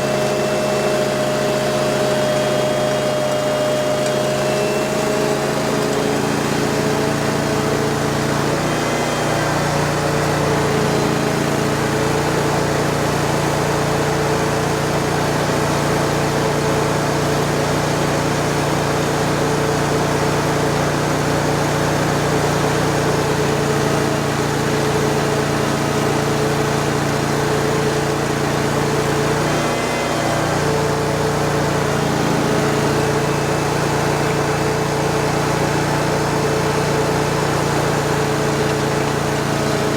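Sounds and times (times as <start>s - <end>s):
vacuum excavator engine droning: 0.0s - 39.9s.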